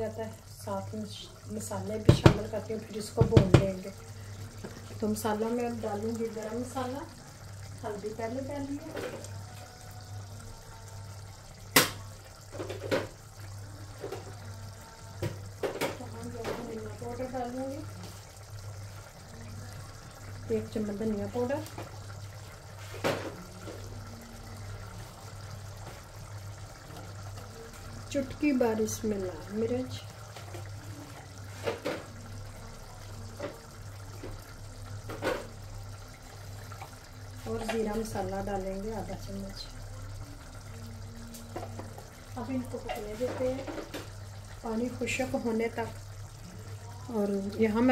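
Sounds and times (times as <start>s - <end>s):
pots simmering and bubbling: 0.0s - 47.9s.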